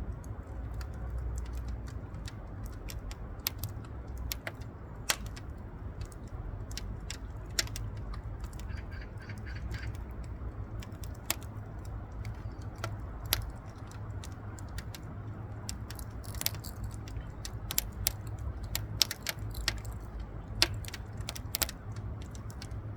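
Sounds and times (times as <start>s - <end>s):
low steady rumble: 0.0s - 22.9s
wood crackling in stove: 0.0s - 22.9s.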